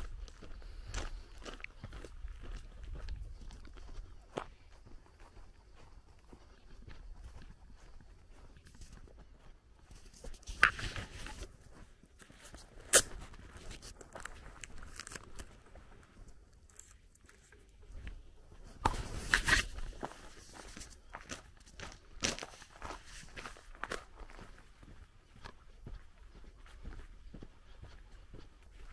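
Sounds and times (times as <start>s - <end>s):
footsteps crunching on gravel: 0.0s - 28.9s.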